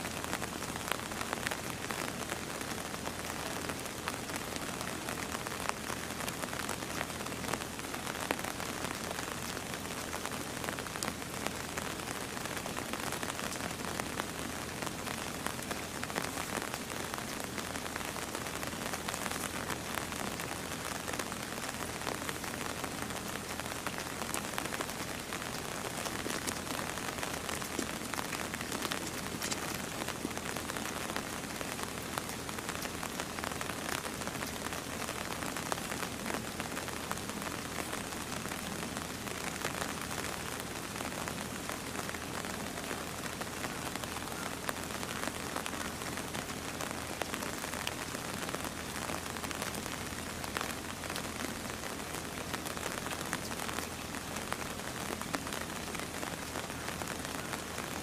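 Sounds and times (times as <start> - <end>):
raindrops ticking on surface: 0.0 - 58.0
steady rain: 0.0 - 58.0.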